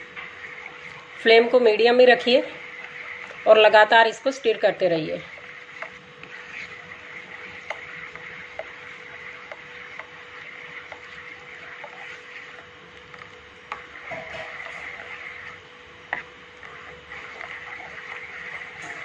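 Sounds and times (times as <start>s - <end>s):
faint hum: 0.0s - 19.0s
spoon scraping pan: 0.2s - 19.0s.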